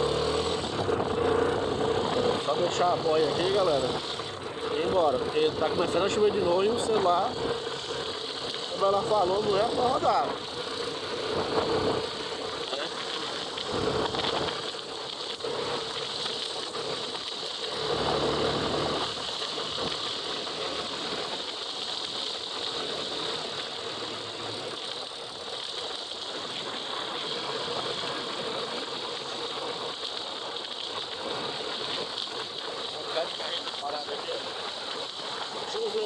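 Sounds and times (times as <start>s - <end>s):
rain hissing: 0.0s - 36.0s
vehicle engine: 0.0s - 36.0s
wet road noise: 0.0s - 36.0s.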